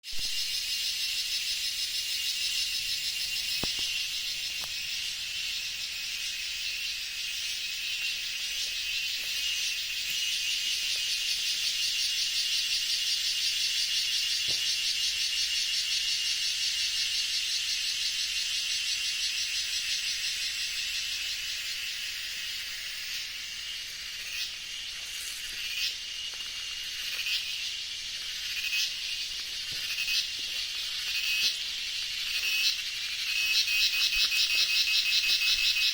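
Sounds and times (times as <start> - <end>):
high-pitched insect chorus: 0.0 - 35.9.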